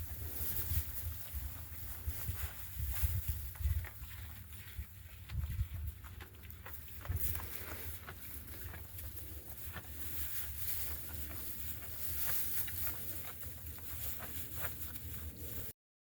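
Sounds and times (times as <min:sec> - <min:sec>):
rustles in sawdust: 0:00.0 - 0:15.7.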